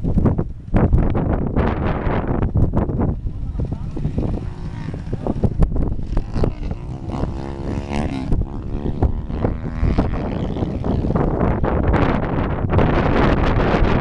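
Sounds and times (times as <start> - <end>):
dirt bike engine revving: 1.6 - 14.0.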